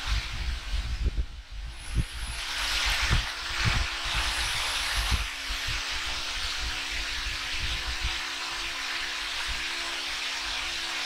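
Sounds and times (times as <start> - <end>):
steady spraying hiss: 1.7 - 11.0.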